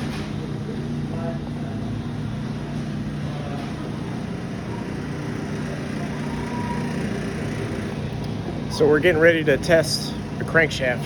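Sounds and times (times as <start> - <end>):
shop machinery humming: 0.0 - 11.0.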